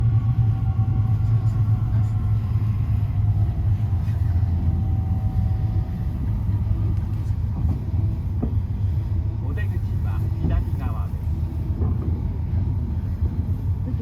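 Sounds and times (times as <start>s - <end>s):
faint whine tones: 0.0s - 14.0s
train low rumble: 0.0s - 14.0s.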